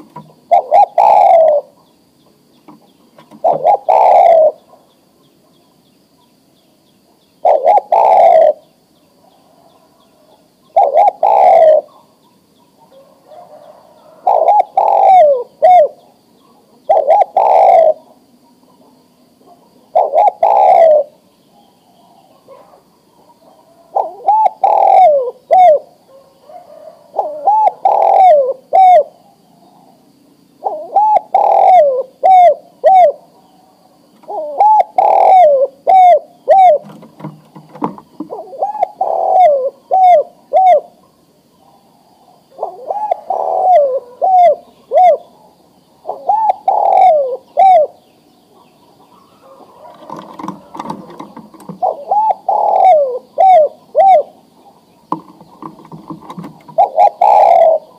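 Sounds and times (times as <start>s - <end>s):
dove cooing: 0.0s - 2.1s, 2.7s - 4.9s, 7.1s - 30.0s, 30.6s - 57.9s.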